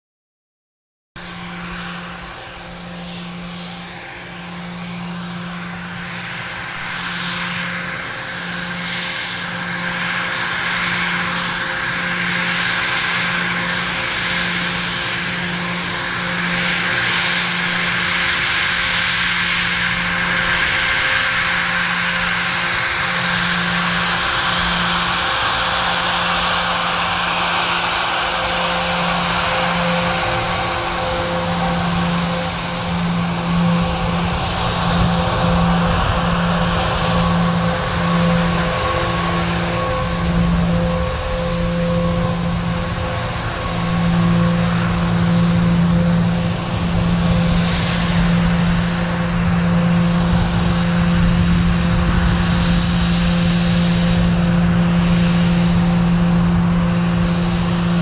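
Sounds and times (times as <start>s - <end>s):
jet engines whining: 1.2s - 58.0s.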